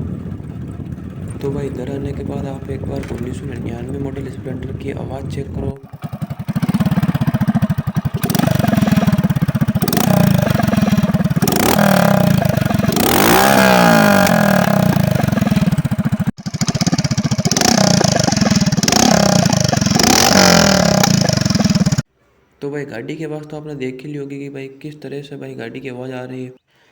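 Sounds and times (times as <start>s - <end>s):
motorcycle engine revving: 0.0s - 22.1s.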